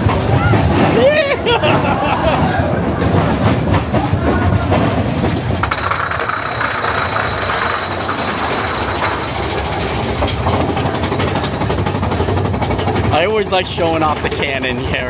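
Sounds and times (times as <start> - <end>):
roller coaster rattling on track: 0.0 - 15.0.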